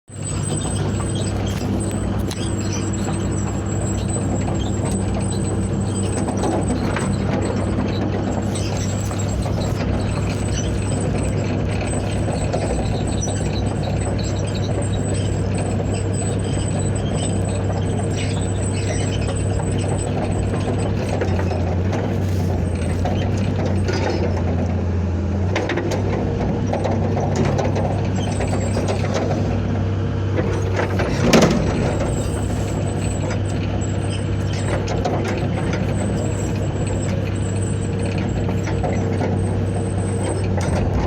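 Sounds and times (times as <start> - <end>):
diesel engine running: 0.0 - 41.0
light metallic clicks and squeaks: 0.1 - 24.8, 25.6 - 29.6, 30.4 - 41.0.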